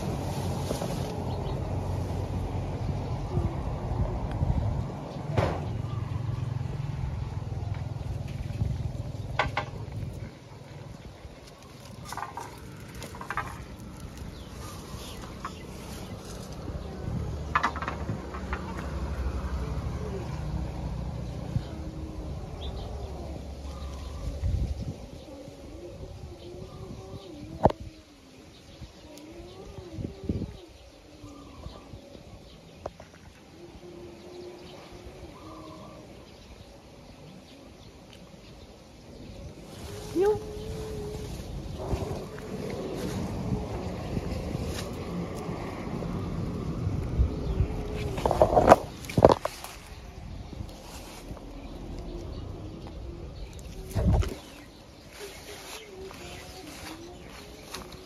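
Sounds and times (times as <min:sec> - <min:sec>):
low cooing bird calls: 0:00.0 - 0:58.0.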